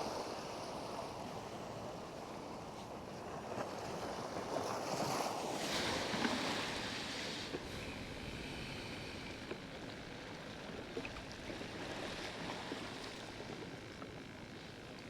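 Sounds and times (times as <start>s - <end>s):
waves and moving water: 0.0s - 15.0s.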